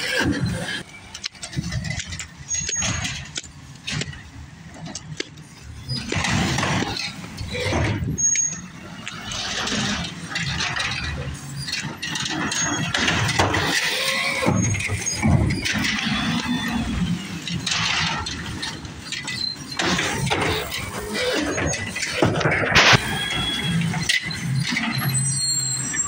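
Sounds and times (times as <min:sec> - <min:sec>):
brake squeaks: 0:00.0 - 0:26.0
garbage truck engine running: 0:00.0 - 0:26.0
hydraulic arm lifting bin: 0:00.0 - 0:26.0.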